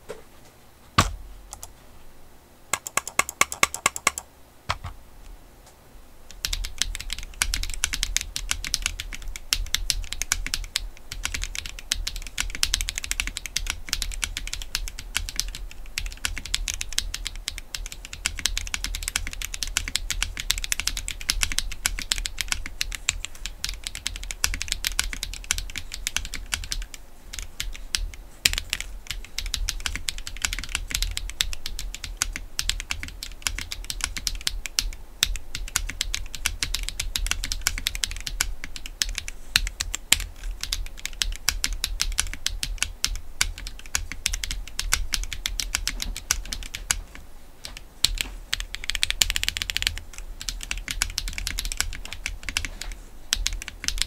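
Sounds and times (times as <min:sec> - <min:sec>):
fast typing on mechanical keyboard: 0:02.8 - 0:04.2, 0:06.3 - 0:54.0.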